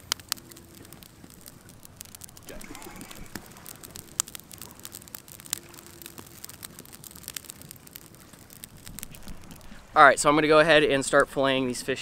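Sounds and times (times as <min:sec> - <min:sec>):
sharp fire pops: 0:00.0 - 0:11.4
campfire crackling: 0:00.0 - 0:12.0.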